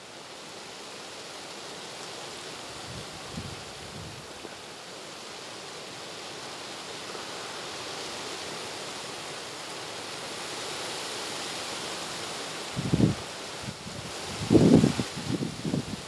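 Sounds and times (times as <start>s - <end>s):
leaves rustling in strong wind: 0.0s - 16.0s.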